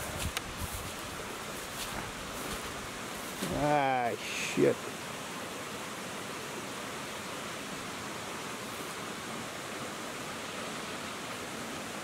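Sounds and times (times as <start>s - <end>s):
shallow stream running: 0.0s - 12.0s.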